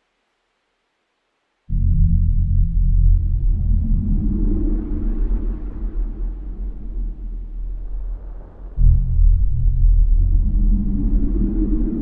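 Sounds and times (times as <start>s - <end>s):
deep rumbling drone: 1.7s - 12.0s.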